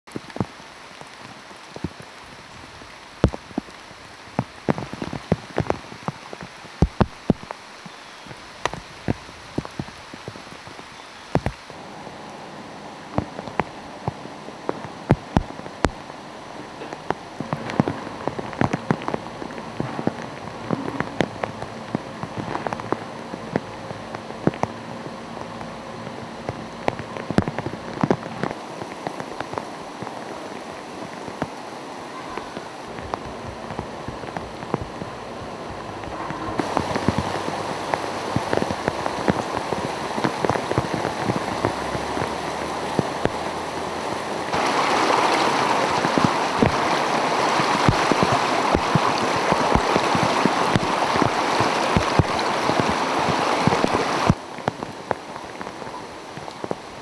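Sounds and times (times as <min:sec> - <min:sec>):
rain falling: 0:00.0 - 0:57.0
raindrops striking surfaces: 0:00.0 - 0:57.0.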